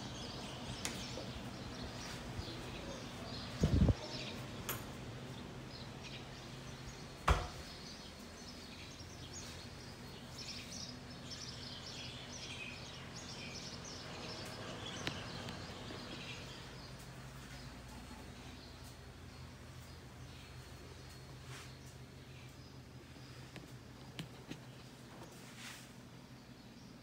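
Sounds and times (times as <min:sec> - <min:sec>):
birds chirping: 0:00.0 - 0:27.0
low steady hum: 0:00.0 - 0:27.0.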